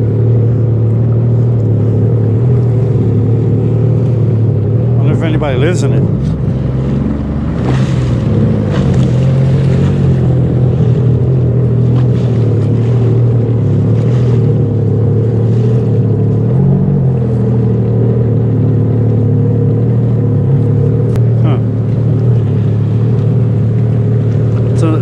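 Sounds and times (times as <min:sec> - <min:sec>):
personal watercraft engine running: 0:00.0 - 0:25.0.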